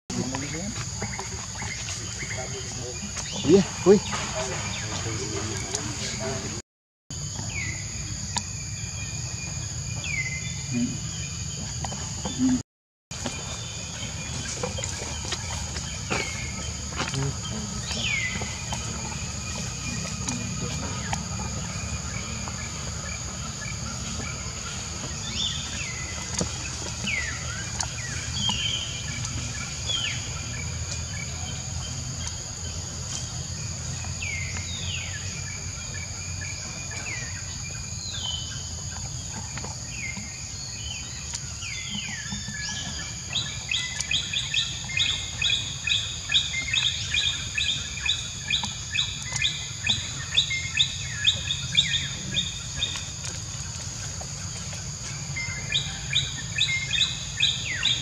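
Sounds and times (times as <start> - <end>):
insect chorus: 0.1 - 58.0.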